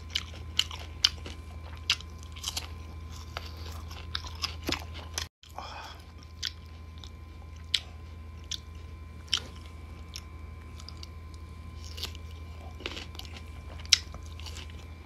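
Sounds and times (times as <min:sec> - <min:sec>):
crunchy biting and chewing: 0:00.0 - 0:15.0.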